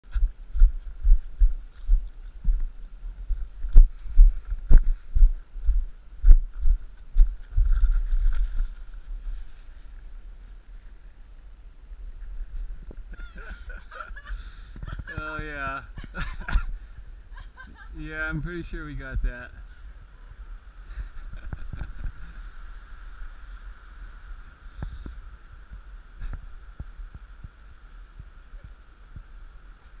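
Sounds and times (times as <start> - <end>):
wind rumbling on microphone: 0.0 - 30.0
faint steady hiss: 0.1 - 30.0.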